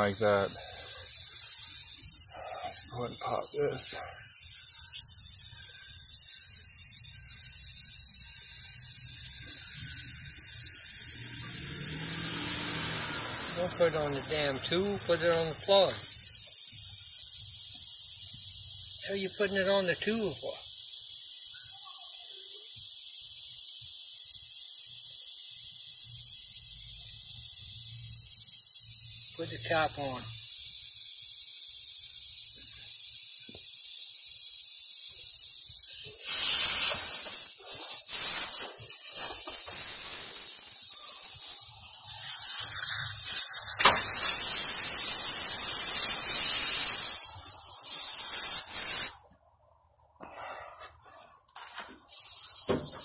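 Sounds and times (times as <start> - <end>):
air hissing from a tire: 0.0 - 49.3, 50.2 - 53.0.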